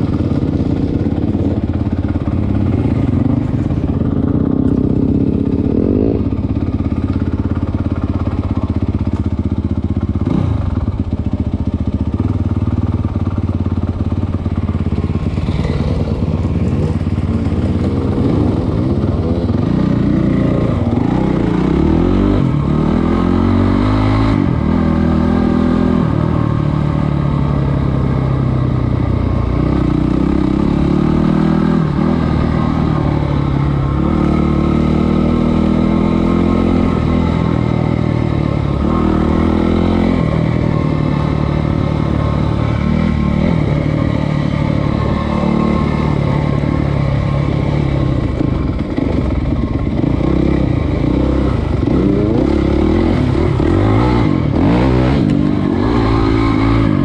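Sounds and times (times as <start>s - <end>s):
dirt bike engine revving: 0.0s - 6.6s, 13.9s - 28.4s, 29.4s - 57.0s.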